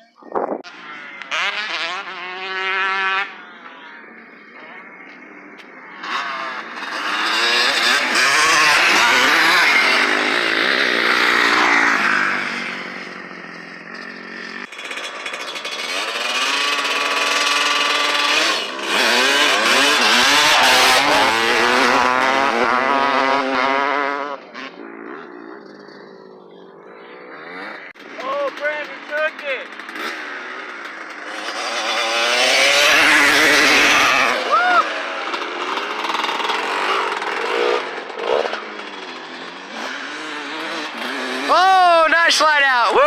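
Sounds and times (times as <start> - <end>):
dirt bikes revving past: 0.0 - 43.0.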